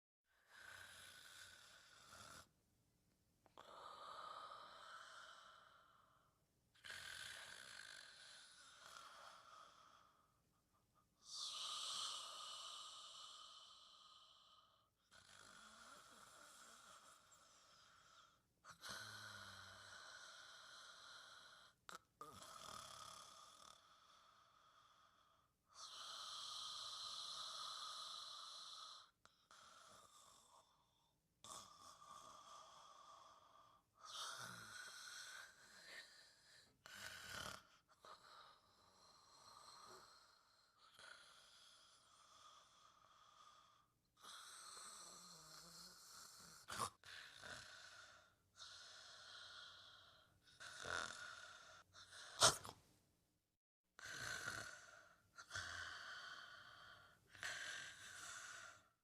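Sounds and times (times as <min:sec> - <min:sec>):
gentle snoring: 0:00.3 - 0:02.5, 0:03.4 - 0:10.4, 0:11.2 - 0:52.9, 0:54.0 - 0:59.0.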